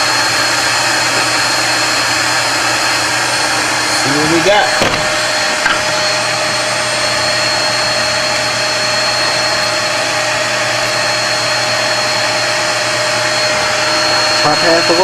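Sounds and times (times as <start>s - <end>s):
router spindle motor whining: 0.0s - 15.0s.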